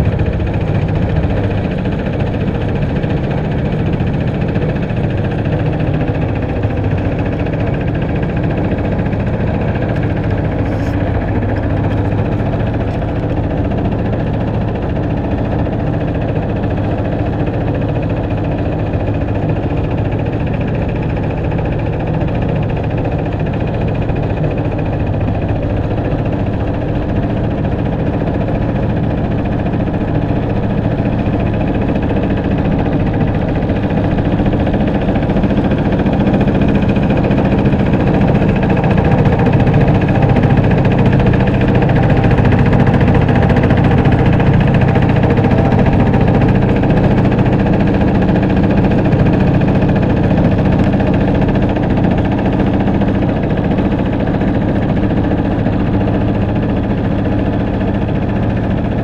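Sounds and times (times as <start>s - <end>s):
small boat motor running: 0.0s - 59.0s.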